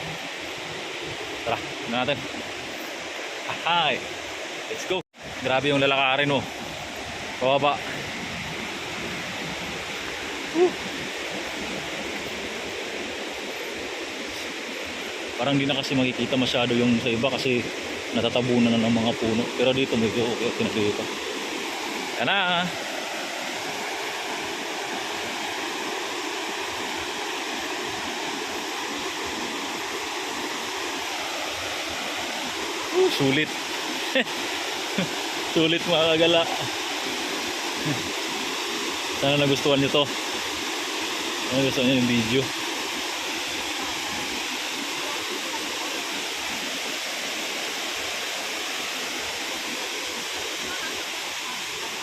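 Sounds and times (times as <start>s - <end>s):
waterfall roaring: 0.0s - 52.0s.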